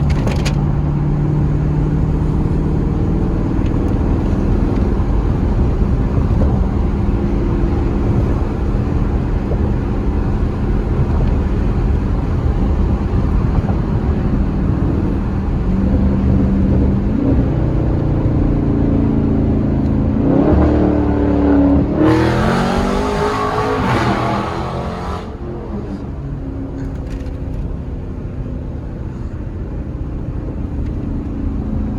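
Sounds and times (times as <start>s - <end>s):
car engine revving: 0.0s - 28.7s.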